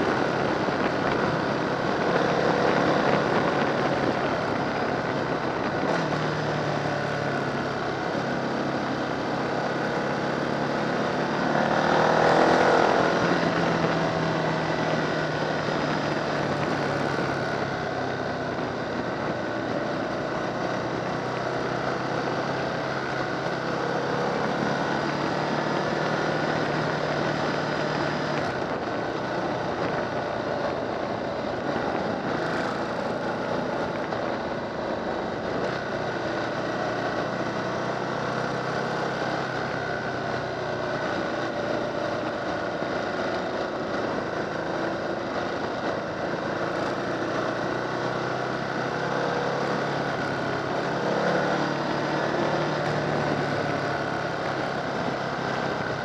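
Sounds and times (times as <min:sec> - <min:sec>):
motorcycle engine cruising: 0:00.0 - 0:56.0
road noise: 0:00.0 - 0:56.0
wind: 0:00.0 - 0:56.0.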